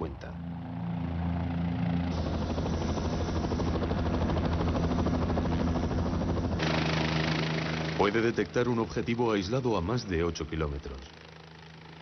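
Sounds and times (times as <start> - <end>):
helicopter engine and rotor drone: 0.0 - 12.0
rotor blades beating: 0.1 - 12.0.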